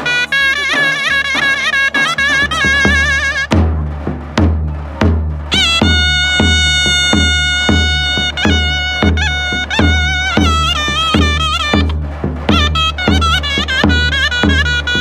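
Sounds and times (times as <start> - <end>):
piercing reed pipe melody: 0.0 - 4.5, 5.4 - 15.0
drum deep strokes: 0.0 - 15.0.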